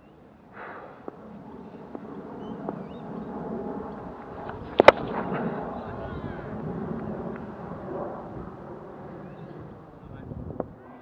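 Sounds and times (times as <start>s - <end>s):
wind and field noise: 0.0s - 11.0s.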